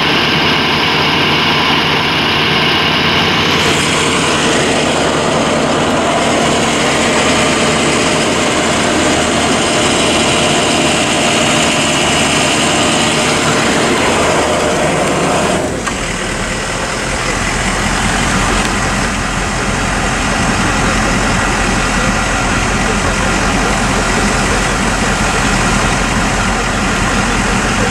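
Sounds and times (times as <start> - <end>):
ambulance engine idling: 0.0 - 27.9.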